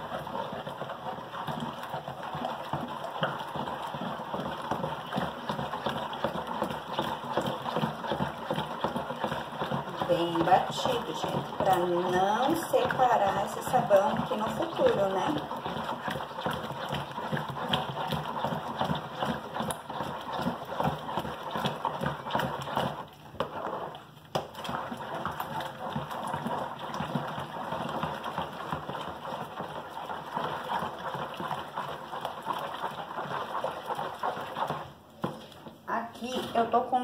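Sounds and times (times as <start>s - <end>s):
spatula beating soap in plastic bowl: 0.0s - 37.0s.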